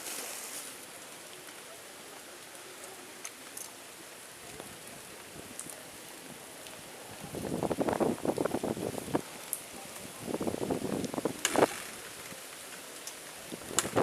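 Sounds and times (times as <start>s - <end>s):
rain falling steadily: 0.0s - 14.0s
rain drop ticks: 0.8s - 14.0s.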